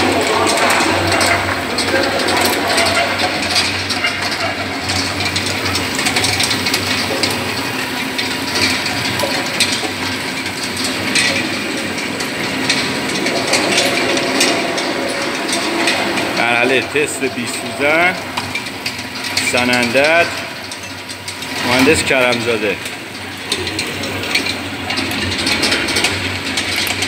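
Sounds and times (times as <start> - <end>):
olive pitting machine clattering: 0.0 - 27.0.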